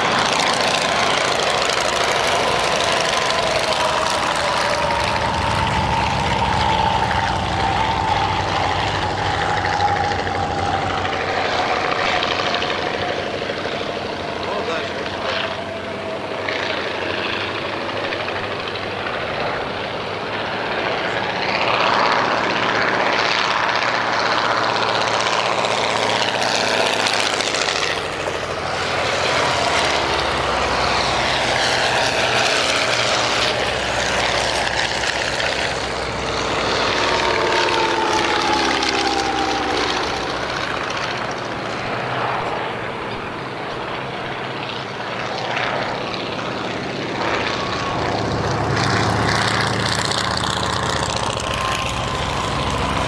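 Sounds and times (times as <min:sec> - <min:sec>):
propeller planes flying past: 0:00.0 - 0:53.0.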